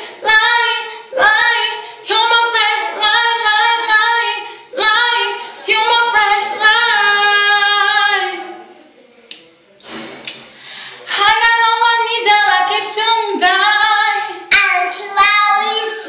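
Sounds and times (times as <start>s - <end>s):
woman and girl singing: 0.0s - 8.6s, 11.1s - 16.0s.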